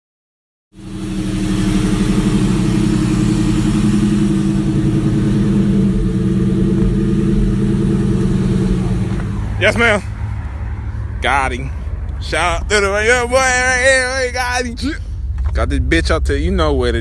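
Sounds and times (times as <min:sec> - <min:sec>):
car engine running: 0:00.7 - 0:17.0.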